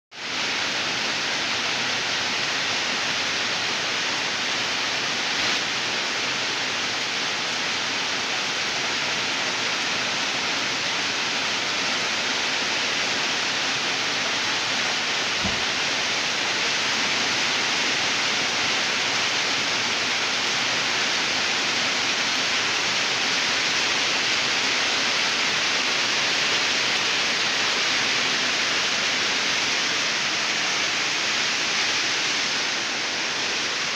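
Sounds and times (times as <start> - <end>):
heavy rain on foliage: 0.1 - 33.9.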